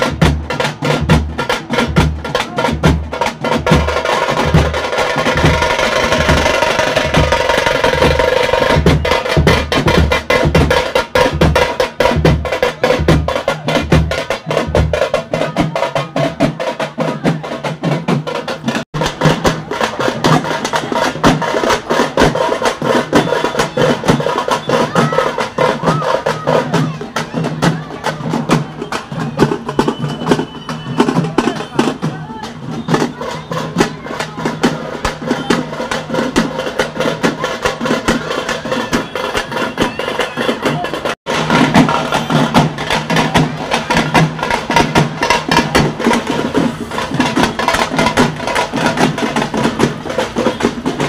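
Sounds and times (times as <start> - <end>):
deep pulsing drum beat: 0.0 - 51.0
fast driving drumming: 0.0 - 51.0.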